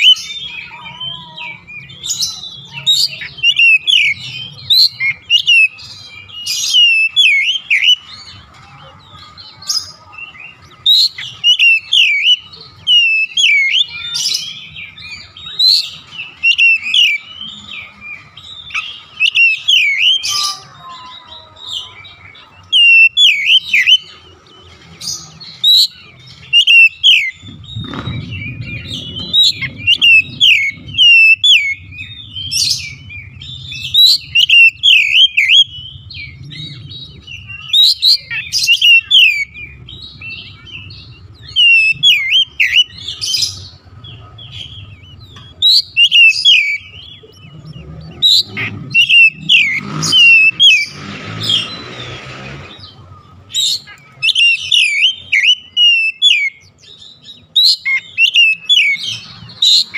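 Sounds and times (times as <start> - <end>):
bird whistles and chirps: 0.0 - 8.4, 9.5 - 24.3, 25.0 - 59.9.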